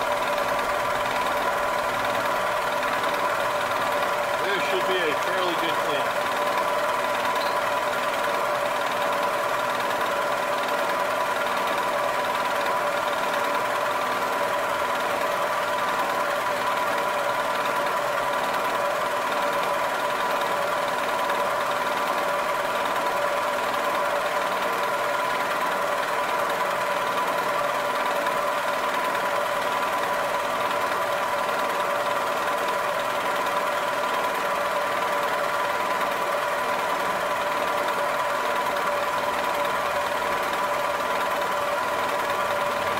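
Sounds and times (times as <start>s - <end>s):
milling machine spindle whine: 0.0s - 42.9s.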